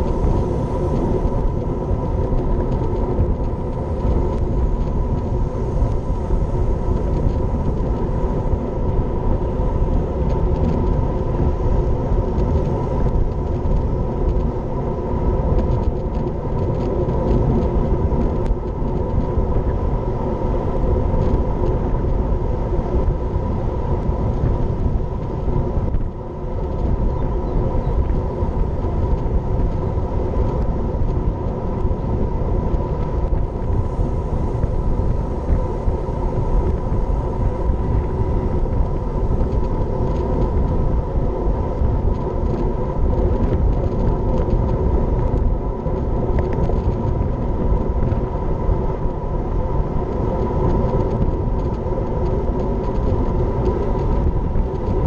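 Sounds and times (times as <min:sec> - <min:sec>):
tyres rolling on asphalt: 0:00.0 - 0:55.0
wind rush: 0:00.0 - 0:55.0.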